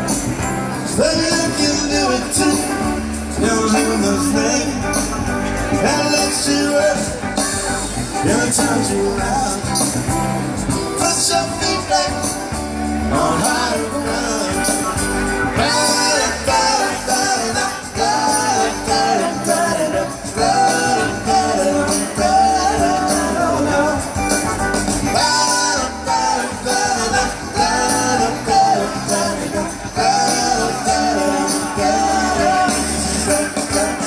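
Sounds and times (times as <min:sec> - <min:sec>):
live rock band: 0:00.0 - 0:34.0
melodic lead line: 0:00.0 - 0:34.0.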